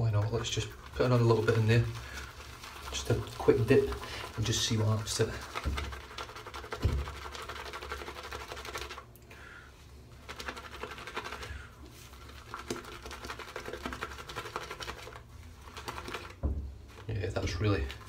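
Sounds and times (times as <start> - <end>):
shaving brush swishing lather: 0.1 - 9.0, 10.1 - 18.0.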